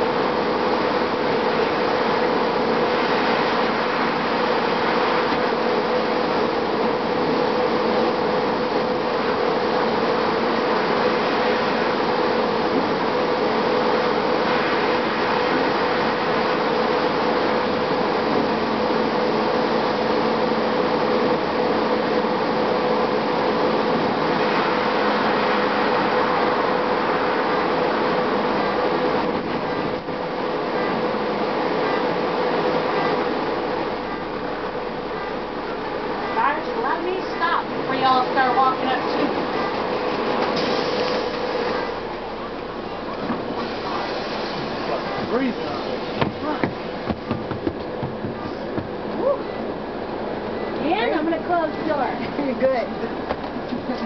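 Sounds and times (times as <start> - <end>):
bus engine and road noise: 0.0 - 54.0
steady hum: 0.0 - 54.0.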